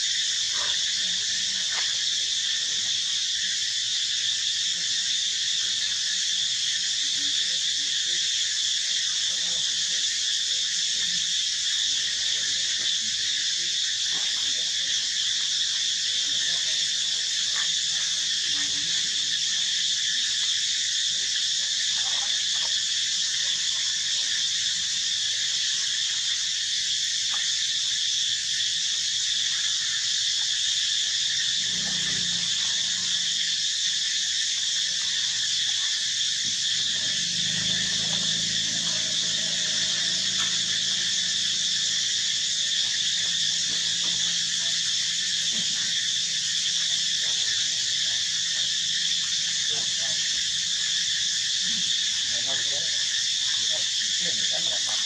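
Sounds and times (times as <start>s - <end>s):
insect drone: 0.0s - 55.0s.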